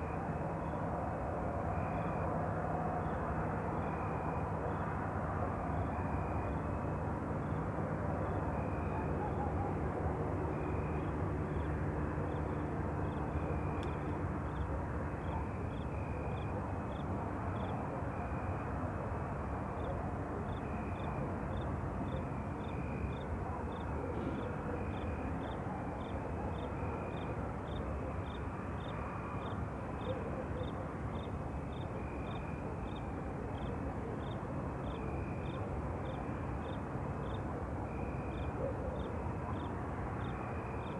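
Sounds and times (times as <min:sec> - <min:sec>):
low pulsing insect call: 0:00.0 - 0:40.9.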